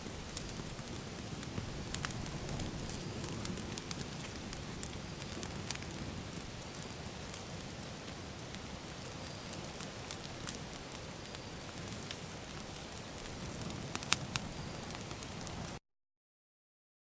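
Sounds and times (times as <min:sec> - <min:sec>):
bonfire crackling and popping: 0:00.0 - 0:15.8.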